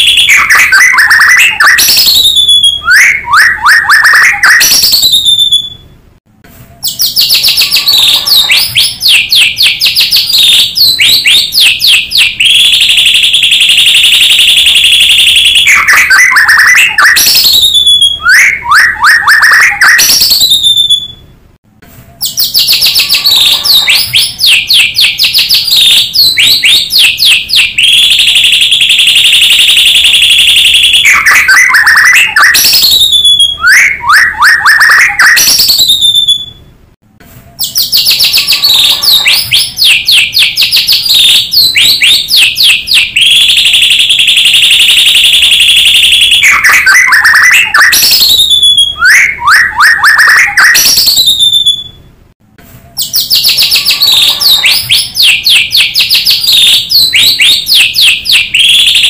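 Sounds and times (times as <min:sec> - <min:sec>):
songbird chirping and whistling: 0:00.0 - 0:06.0, 0:06.6 - 0:21.3, 0:21.9 - 0:36.7, 0:37.3 - 0:52.1, 0:52.8 - 0:59.0.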